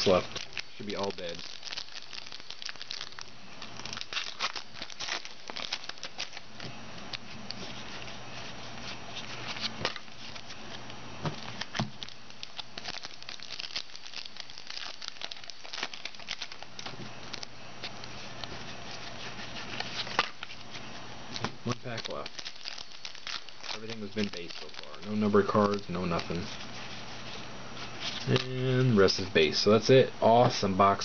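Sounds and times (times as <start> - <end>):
foil wrappers tearing and crinkling: 0.0 - 10.8, 11.4 - 27.4
cards being shuffled: 0.0 - 28.5.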